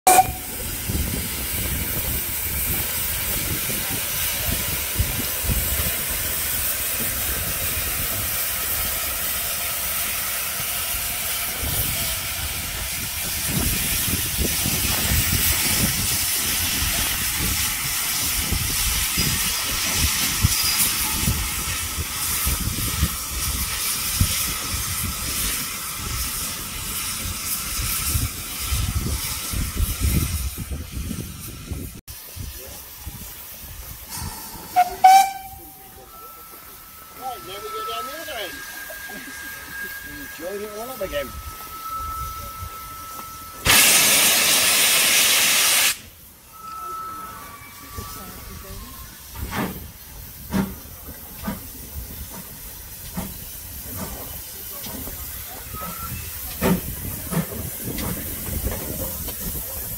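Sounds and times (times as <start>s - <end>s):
low rumbling of train: 0.0s - 59.9s
steam locomotive hissing: 0.1s - 59.9s.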